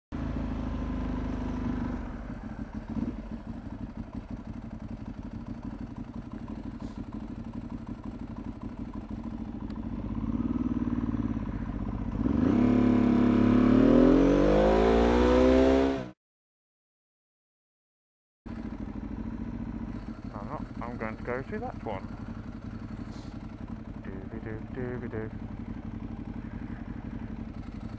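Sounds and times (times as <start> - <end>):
motorcycle engine revving: 0.2 - 16.2, 18.5 - 27.9.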